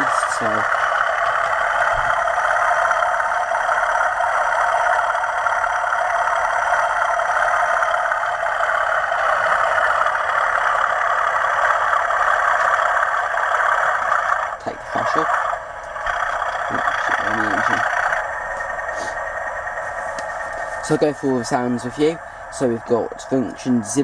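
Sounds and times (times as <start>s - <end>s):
diesel engine sound from small speaker: 0.0s - 24.0s.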